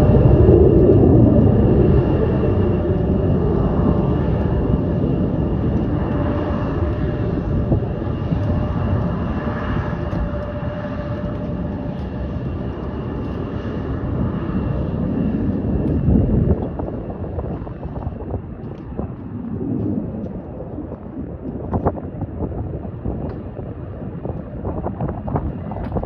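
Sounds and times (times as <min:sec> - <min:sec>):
jet engines roaring with whine: 0:00.0 - 0:26.0.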